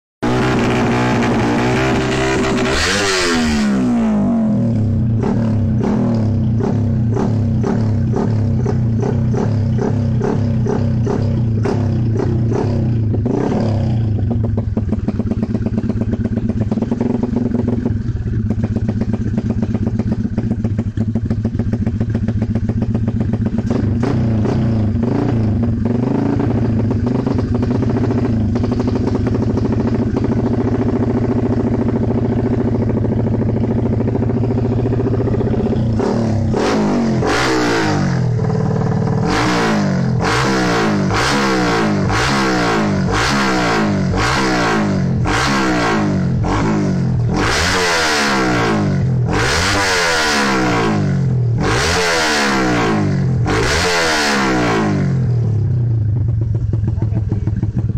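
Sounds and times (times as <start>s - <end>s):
motorcycle engine idling and revving: 0.2s - 57.9s.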